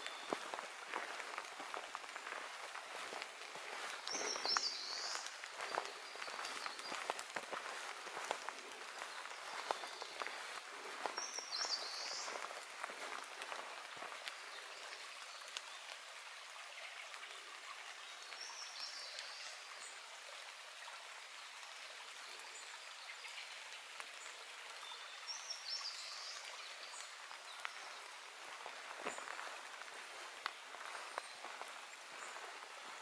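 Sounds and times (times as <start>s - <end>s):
songbird singing: 0.0s - 20.1s, 24.2s - 33.0s
forest ambience hiss: 0.0s - 33.0s.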